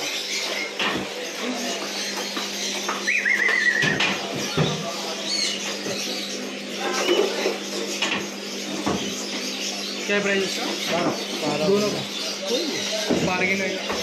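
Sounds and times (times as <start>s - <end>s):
shop background bustle: 0.0s - 14.0s.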